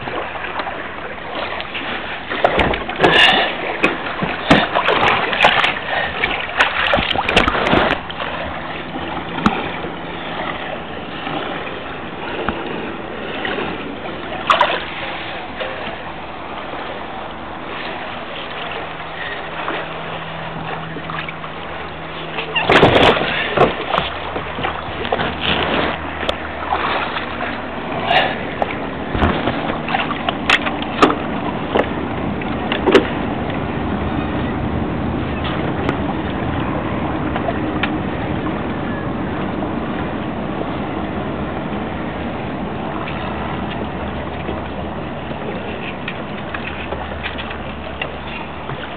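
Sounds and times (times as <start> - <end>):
low engine hum: 0.0 - 48.9
water splashing against hull: 0.0 - 48.9.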